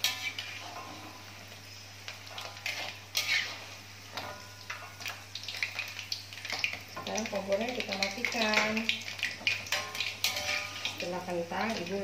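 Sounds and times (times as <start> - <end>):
metal utensils scraping a wok: 0.0 - 1.4, 2.0 - 7.1, 8.0 - 12.0.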